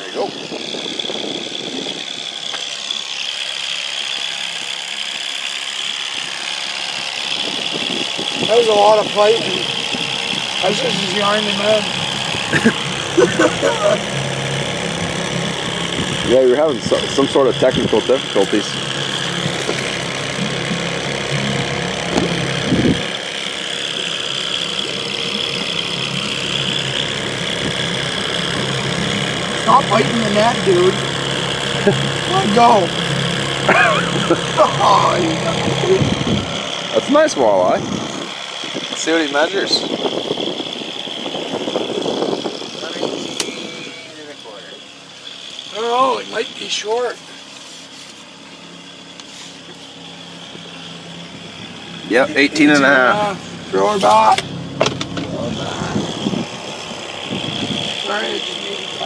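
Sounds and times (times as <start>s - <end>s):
outboard motor whine: 0.0s - 59.0s.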